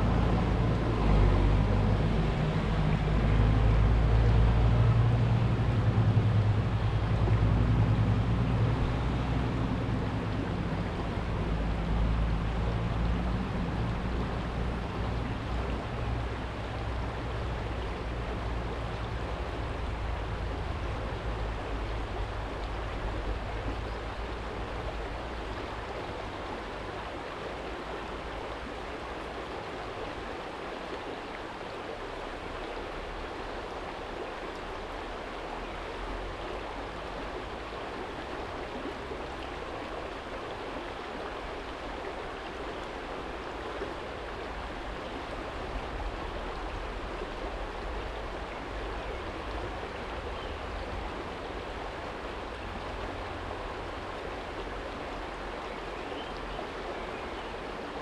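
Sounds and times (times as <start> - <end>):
stream burbling over stones: 0.0 - 58.0.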